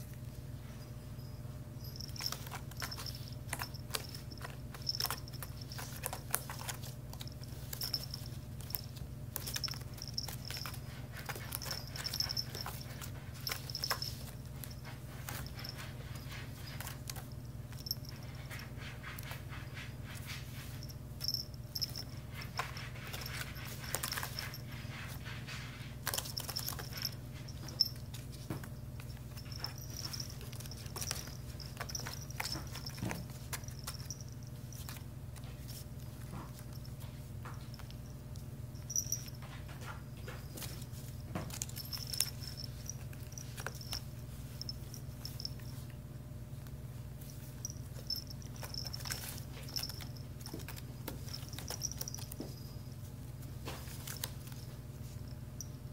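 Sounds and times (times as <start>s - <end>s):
steady low hum: 0.0s - 55.9s
kitten claws scratching on basket: 1.9s - 45.7s, 47.2s - 55.6s.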